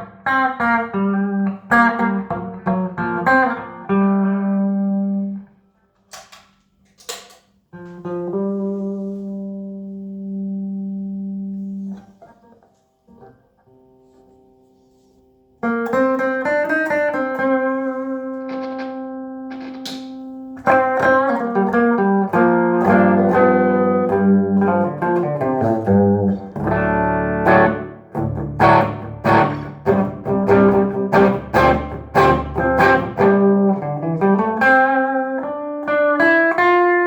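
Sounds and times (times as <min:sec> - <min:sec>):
electric guitar chords and notes: 0:00.0 - 0:05.6, 0:07.7 - 0:37.0.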